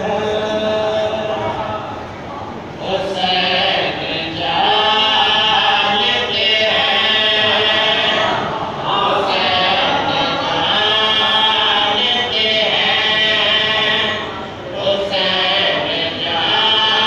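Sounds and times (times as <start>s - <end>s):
men singing unaccompanied: 2.8s - 17.0s.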